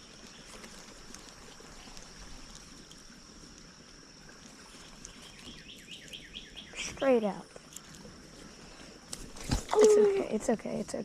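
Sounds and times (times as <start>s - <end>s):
creek water flowing: 0.0s - 11.0s
high insect drone: 0.0s - 11.0s.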